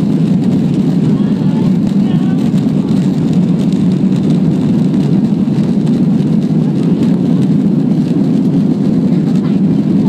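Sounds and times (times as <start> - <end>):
jet engines roaring: 0.0 - 10.0
wheels rumbling on runway: 0.0 - 10.0.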